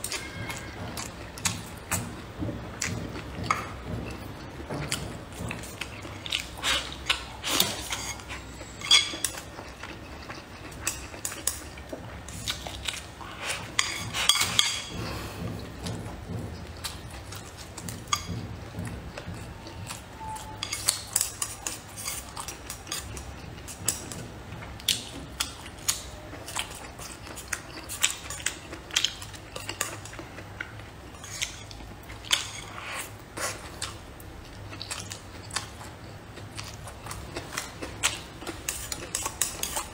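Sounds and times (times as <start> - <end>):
chewing: 0.0 - 39.9.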